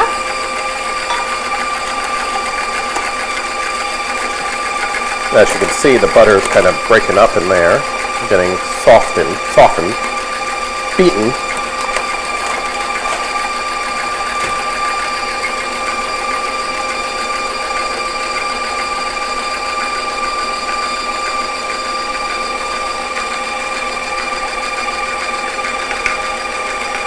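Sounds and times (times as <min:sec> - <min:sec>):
stand mixer motor whining: 0:00.0 - 0:27.0.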